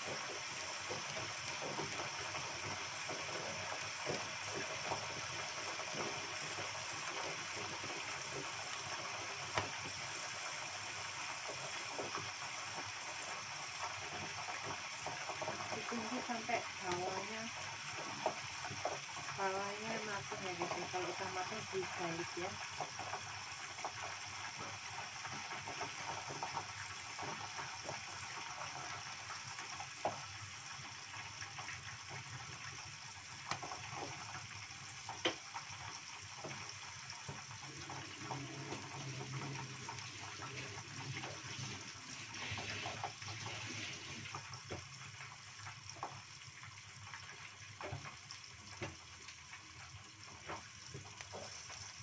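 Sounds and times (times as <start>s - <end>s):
frying in hot oil: 0.0s - 52.0s.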